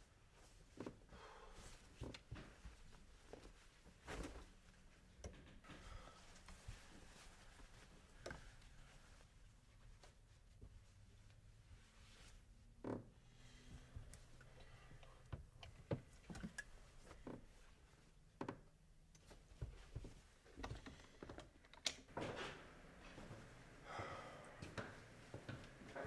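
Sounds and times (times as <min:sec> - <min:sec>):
clothing rustling: 0:00.1 - 0:23.8.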